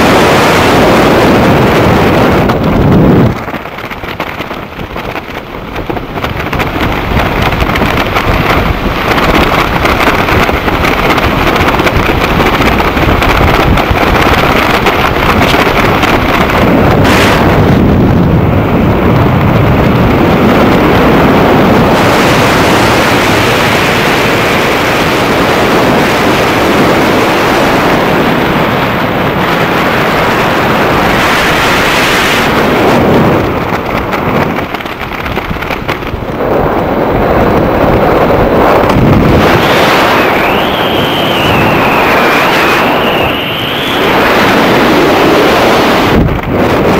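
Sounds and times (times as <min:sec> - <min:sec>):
freefall wind buffeting microphone: 0:00.0 - 0:46.9.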